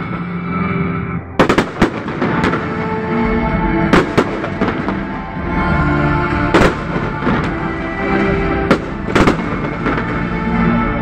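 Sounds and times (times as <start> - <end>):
music playing: 0.0 - 11.0.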